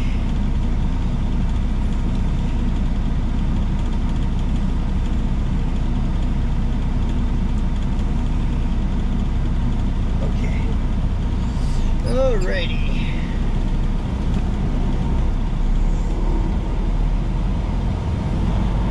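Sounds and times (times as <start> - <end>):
diesel truck engine idling: 0.0 - 18.9.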